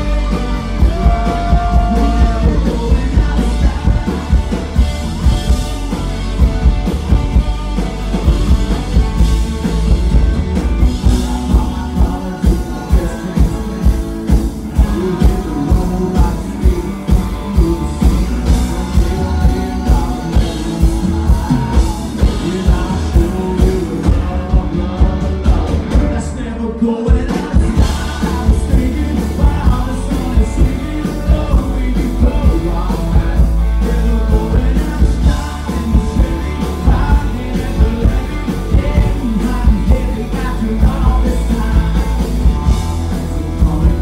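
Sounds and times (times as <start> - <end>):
drumbeat: 0.0 - 26.3, 27.1 - 44.0
acoustic guitar: 0.0 - 44.0
man singing: 0.0 - 44.0.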